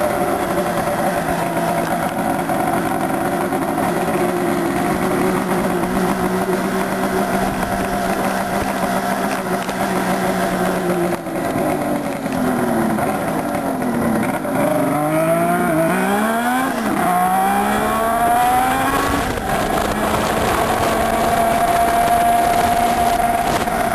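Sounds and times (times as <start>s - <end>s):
motorcycle engine idling and revving: 0.0s - 23.9s.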